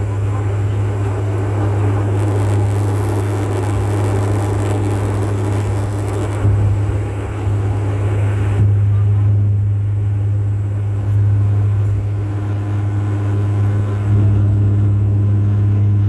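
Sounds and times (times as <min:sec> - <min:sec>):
engine and airflow rushing: 0:00.0 - 0:16.0
propeller drone: 0:00.0 - 0:16.0.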